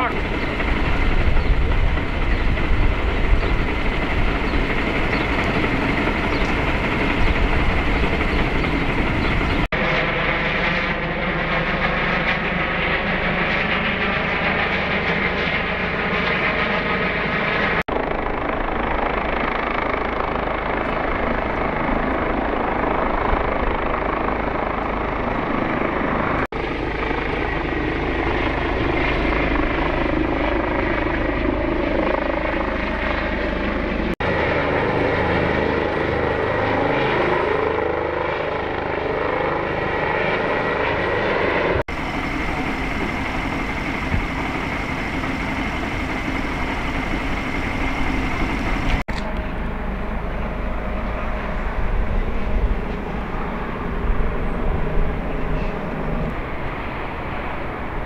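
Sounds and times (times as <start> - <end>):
helicopter rotor and turbine drone: 0.0 - 58.0.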